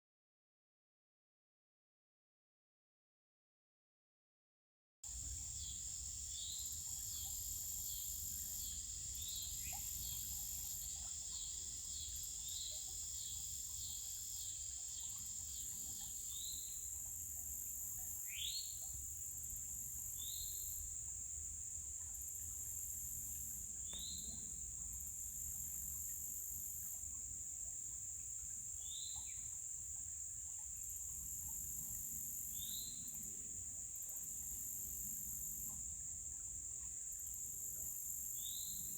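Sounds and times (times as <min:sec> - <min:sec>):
insects trilling: 0:05.1 - 0:38.9.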